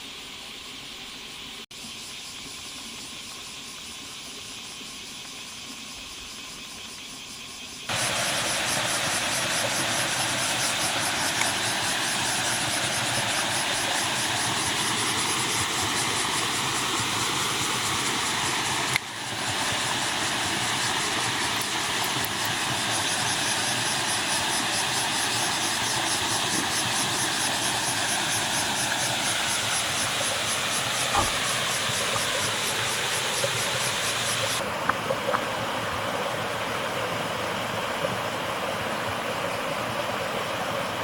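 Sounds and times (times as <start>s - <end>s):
cicadas buzzing chorus: 0.0s - 41.0s
flowing stream water: 7.9s - 41.0s.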